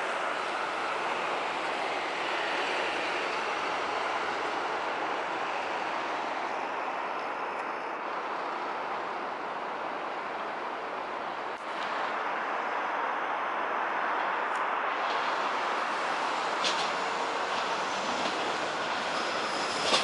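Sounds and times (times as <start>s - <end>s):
electric train rumbling past: 0.0s - 14.1s, 14.8s - 20.0s
city traffic noise: 0.0s - 20.0s.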